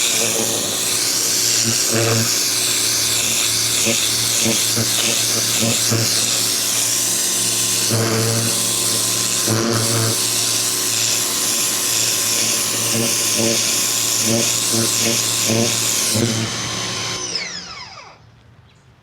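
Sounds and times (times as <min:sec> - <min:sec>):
high-pressure water spray hiss: 0:00.0 - 0:16.0
pressure washer motor buzz: 0:00.0 - 0:18.2.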